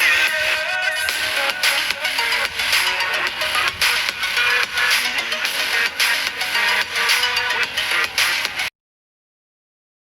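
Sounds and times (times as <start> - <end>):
background music with steady beat: 0.0 - 8.7.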